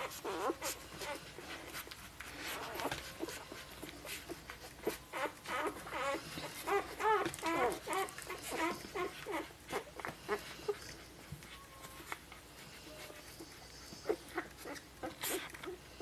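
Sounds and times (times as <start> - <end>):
puppies squeaking and whimpering: 0.0 - 16.0.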